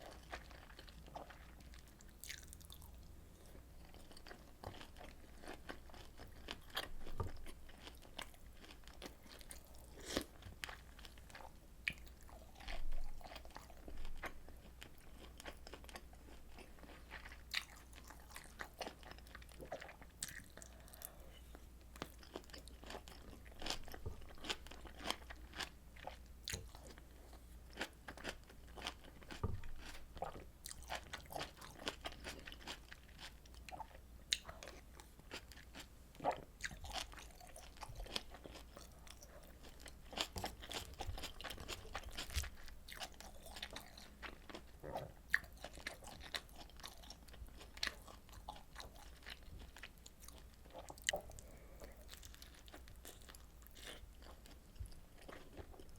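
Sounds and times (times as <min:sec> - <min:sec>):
person chewing and crunching: 0:00.0 - 0:55.9.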